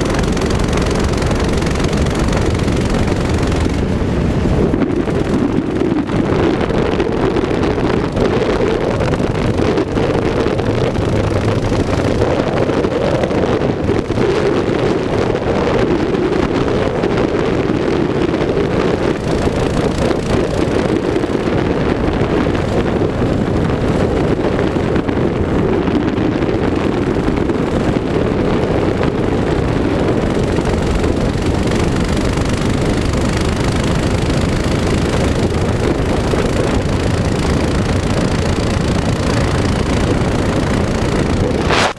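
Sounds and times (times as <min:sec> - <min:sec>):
small bike engine running: 0:00.0 - 0:41.9
wind buffeting microphone: 0:00.0 - 0:41.9.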